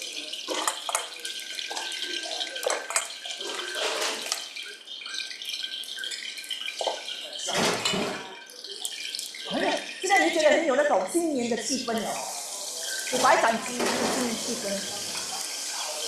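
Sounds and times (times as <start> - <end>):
tap running water into bowl: 0.0 - 16.0.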